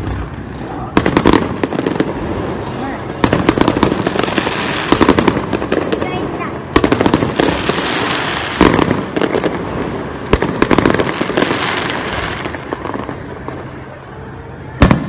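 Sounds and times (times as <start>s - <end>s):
firework shells bursting with bangs: 0.0s - 13.8s
small firework pops and crackles: 0.0s - 14.2s, 14.8s - 15.0s.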